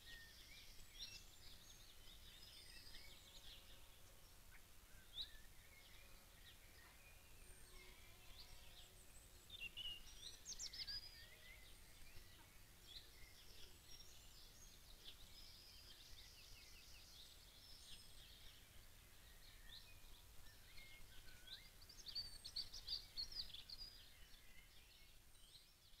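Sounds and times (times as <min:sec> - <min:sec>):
faint birdsong: 0:00.0 - 0:26.0.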